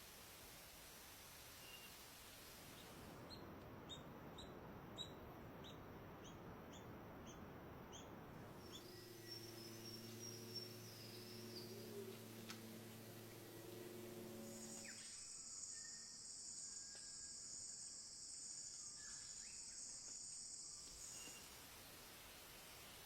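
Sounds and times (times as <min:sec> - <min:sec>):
faint bird chirps: 0:01.5 - 0:18.0, 0:18.6 - 0:21.7.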